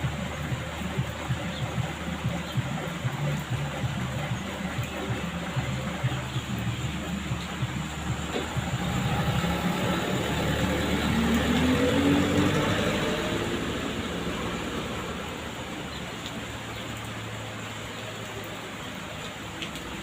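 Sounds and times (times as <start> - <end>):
truck engine revving: 0.0 - 17.6
steady rain-like hiss: 0.0 - 20.0.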